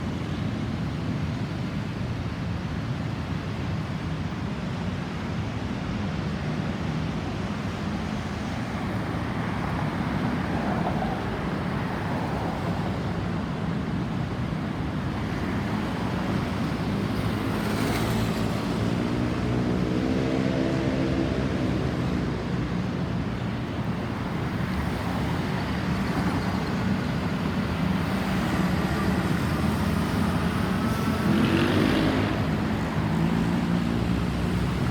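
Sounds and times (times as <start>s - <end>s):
road traffic rumble: 0.0s - 34.9s.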